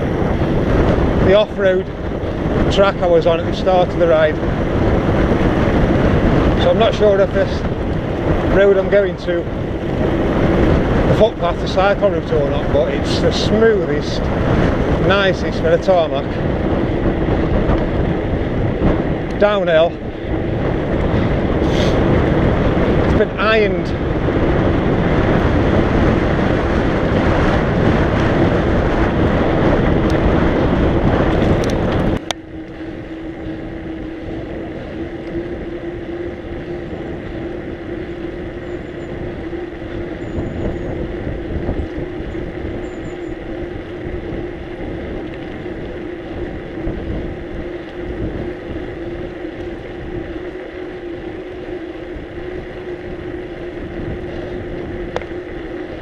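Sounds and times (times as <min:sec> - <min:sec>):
bicycle riding noise: 0:00.0 - 0:56.0
steady low hum: 0:00.0 - 0:56.0
wind rushing over microphone: 0:00.0 - 0:56.0.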